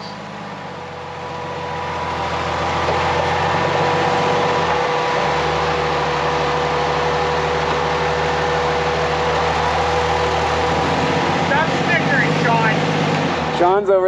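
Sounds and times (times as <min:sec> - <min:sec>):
thin steady whine: 0:00.0 - 0:12.9
off-road vehicle engine idling: 0:00.0 - 0:14.0.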